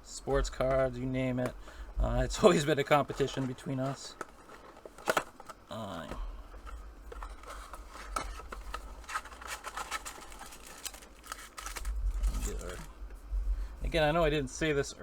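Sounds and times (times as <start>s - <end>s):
card packs being handled and opened: 0.1s - 13.0s.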